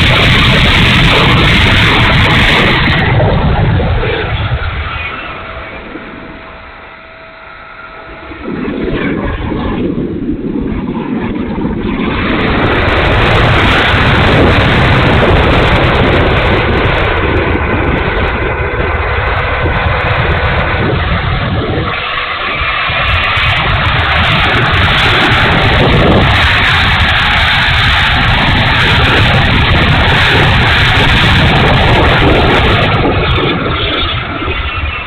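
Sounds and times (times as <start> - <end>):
electric ducted fans running roughly: 0.0 - 35.0.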